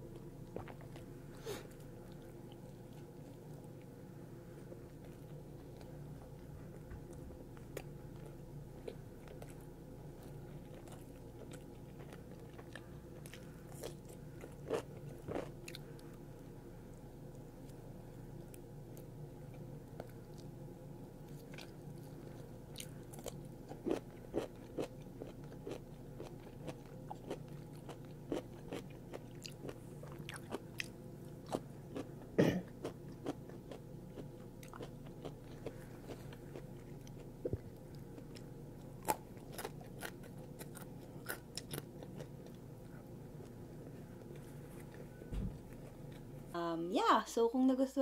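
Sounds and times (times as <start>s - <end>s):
close chewing and crunching: 0.0s - 20.6s, 21.2s - 46.3s.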